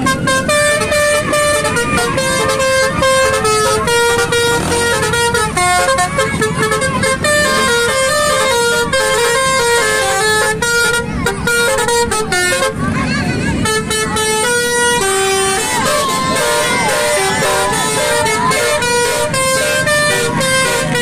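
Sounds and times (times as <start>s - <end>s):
multi-tone musical vehicle horn: 0.0s - 21.0s.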